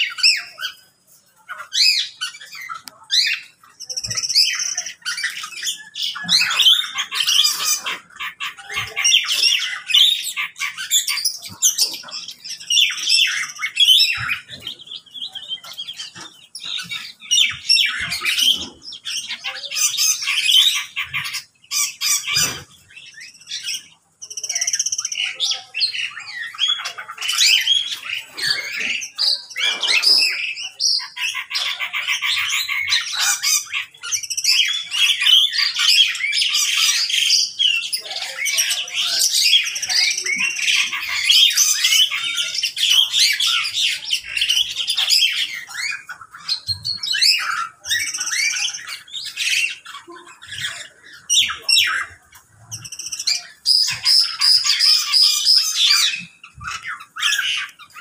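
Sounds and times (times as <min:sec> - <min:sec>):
small birds chirping and squawking: 0:00.0 - 0:58.0.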